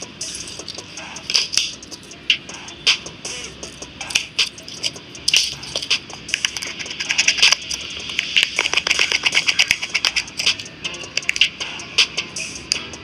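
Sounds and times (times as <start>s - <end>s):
hand tools clicking and tapping: 0.0s - 12.9s.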